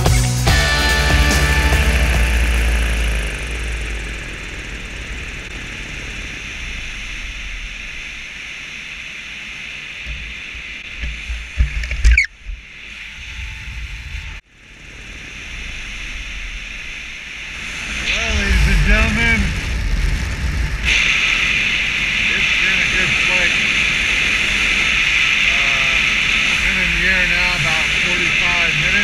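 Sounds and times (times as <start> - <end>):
rushing air noise: 0.5 - 29.0.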